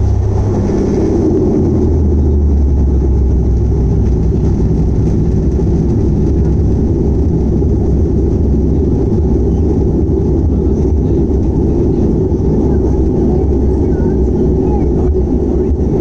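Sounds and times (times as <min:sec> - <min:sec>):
turboprop engines humming: 0:00.0 - 0:16.0.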